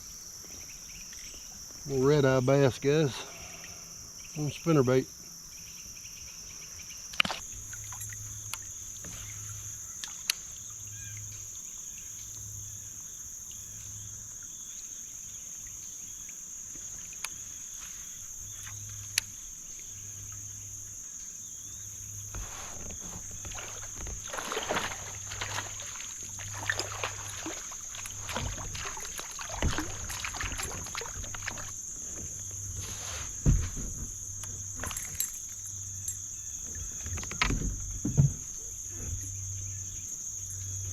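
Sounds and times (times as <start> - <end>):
crickets chirring: 0.0 - 40.9
water splashing around kayak: 7.2 - 21.0, 21.7 - 40.9.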